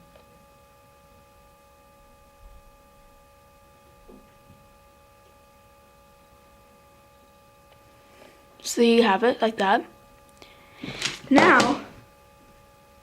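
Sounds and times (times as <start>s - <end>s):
faint high electrical whine: 0.0s - 13.0s.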